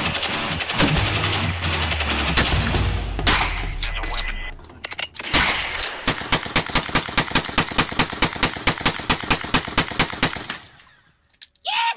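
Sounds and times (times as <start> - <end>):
rifle shots: 0.0 - 4.2, 5.2 - 10.8.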